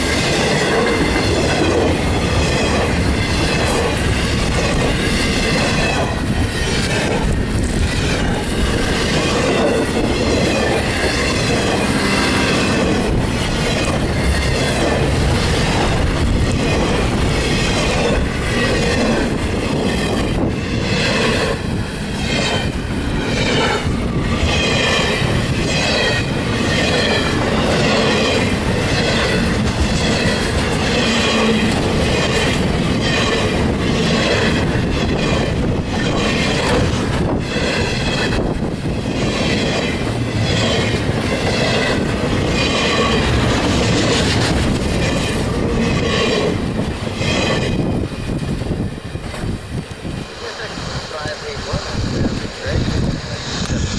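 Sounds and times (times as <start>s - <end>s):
train wheels clacking over joints: 0.0s - 50.0s.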